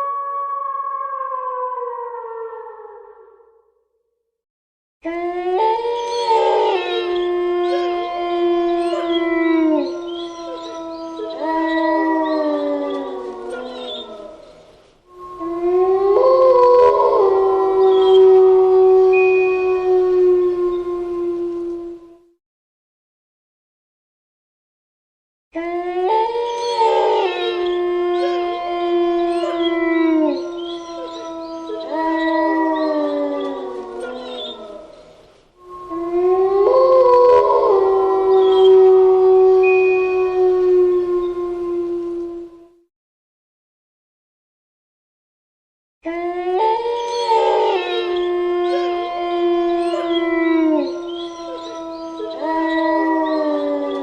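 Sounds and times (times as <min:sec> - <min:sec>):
wolves howling: 0:00.0 - 0:03.4, 0:05.0 - 0:22.3, 0:25.6 - 0:42.8, 0:46.0 - 0:54.0.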